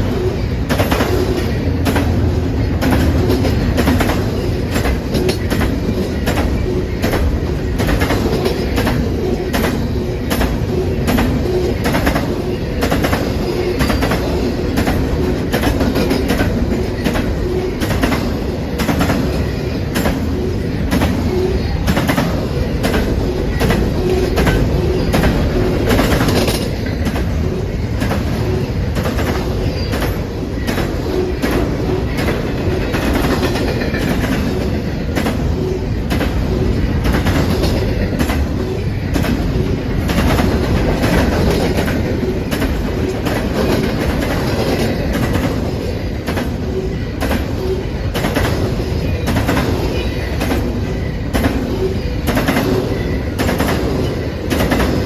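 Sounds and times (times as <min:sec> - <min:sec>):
freight train rolling past: 0:00.0 - 0:55.0
wheels clicking over rail joints: 0:00.6 - 0:55.0.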